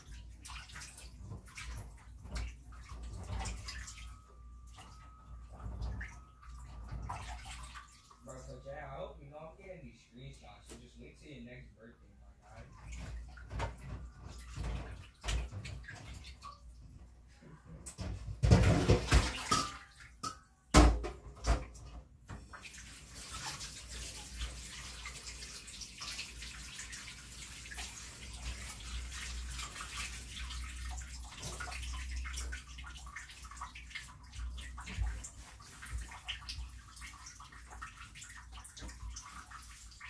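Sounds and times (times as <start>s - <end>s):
knocks and clatters in sink: 0.0s - 8.2s, 12.5s - 40.0s.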